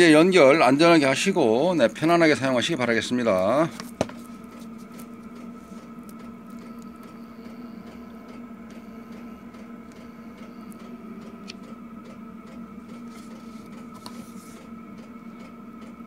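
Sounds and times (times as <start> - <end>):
high whine: 0.0 - 14.8
electrical hum: 0.0 - 16.0.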